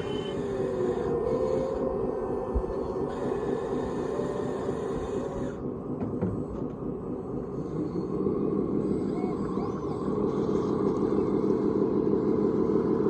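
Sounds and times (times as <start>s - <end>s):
model machine motors humming: 0.0s - 13.0s.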